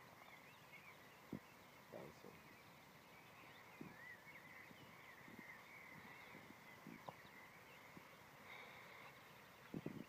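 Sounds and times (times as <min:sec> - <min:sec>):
distant animals chirping: 0:00.0 - 0:10.0.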